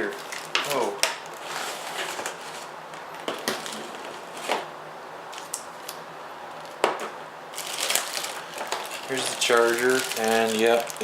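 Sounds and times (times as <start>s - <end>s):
packaging knocks and rustles: 0.1s - 4.7s, 6.6s - 11.0s.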